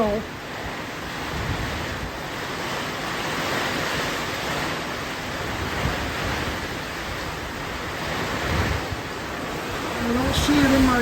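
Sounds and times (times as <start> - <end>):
hurricane wind blowing: 0.0 - 11.0
wind buffeting microphone: 0.0 - 11.0.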